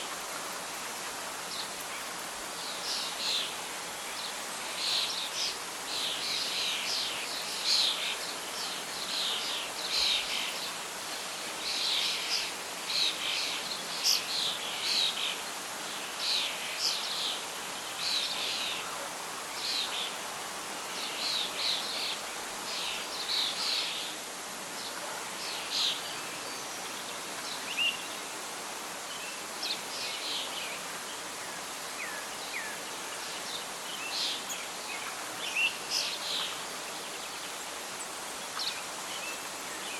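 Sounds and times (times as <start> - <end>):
wind rustling leaves: 0.0 - 39.9.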